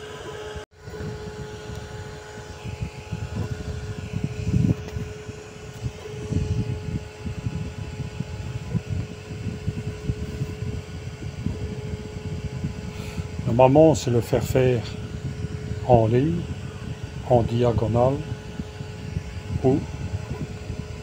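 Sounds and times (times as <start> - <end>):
fan hum: 0.0 - 21.0
moving air noise: 0.0 - 21.0.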